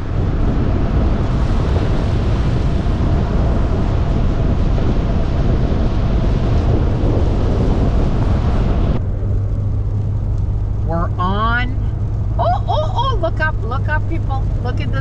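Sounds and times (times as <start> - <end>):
truck road and wind noise: 0.0 - 15.0.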